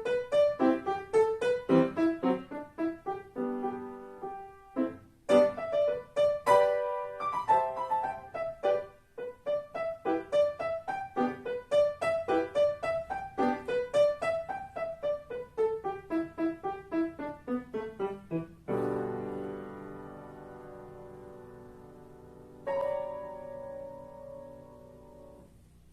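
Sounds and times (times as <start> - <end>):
solo piano playing: 0.0 - 25.9.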